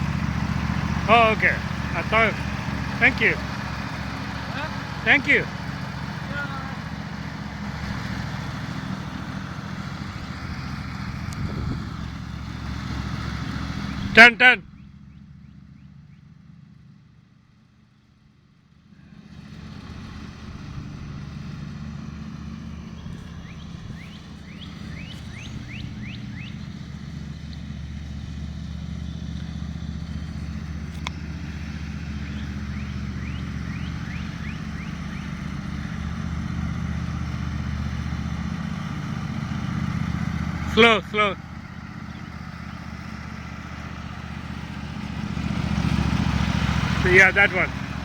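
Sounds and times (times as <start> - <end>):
riding lawnmower engine: 0.0 - 48.0.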